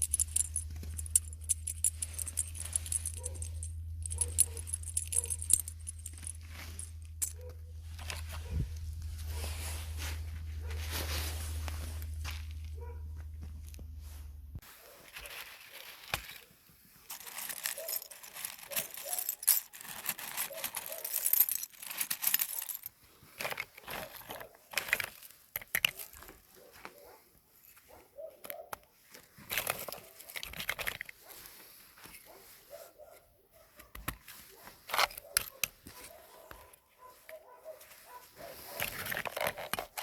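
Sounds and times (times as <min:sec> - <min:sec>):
crinkling and rustling: 0:00.0 - 0:40.0.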